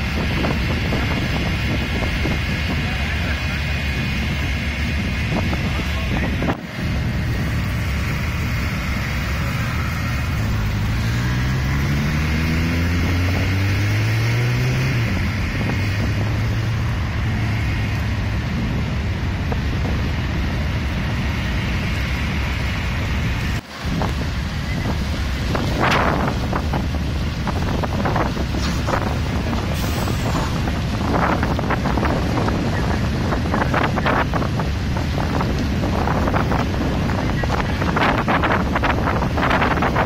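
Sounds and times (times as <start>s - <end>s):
roadside traffic noise: 0.0s - 40.0s
vehicle engine accelerating: 0.0s - 40.0s
wind noise on microphone: 0.0s - 40.0s.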